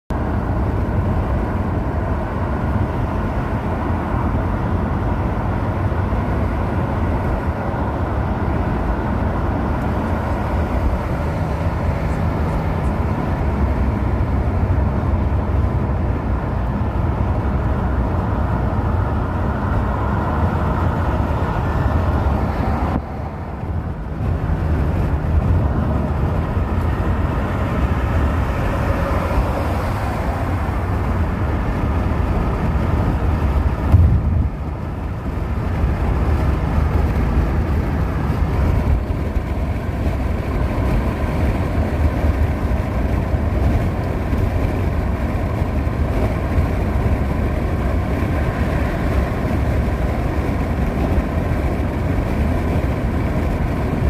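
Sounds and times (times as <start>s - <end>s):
steady low rumbling noise: 0.1s - 54.0s.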